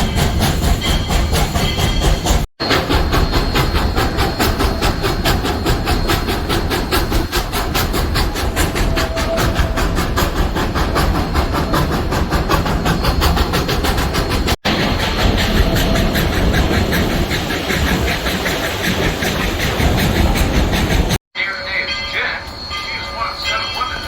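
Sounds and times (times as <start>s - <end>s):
train clattering on rails: 0.0s - 24.0s.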